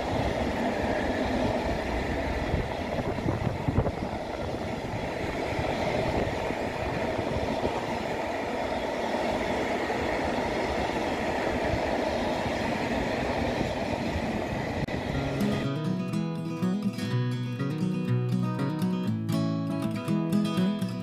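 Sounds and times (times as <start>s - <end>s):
freight train wheels on rails: 0.0s - 17.1s.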